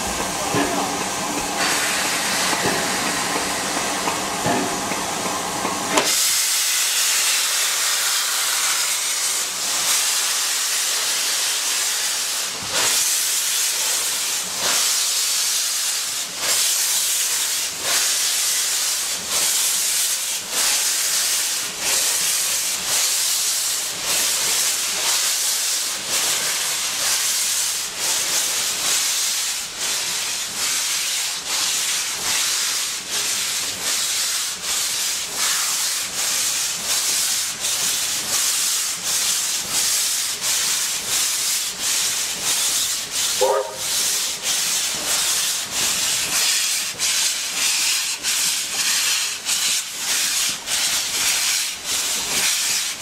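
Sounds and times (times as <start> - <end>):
loud steady steam hiss: 0.0 - 53.0
steam locomotive exhaust beats: 0.0 - 53.0.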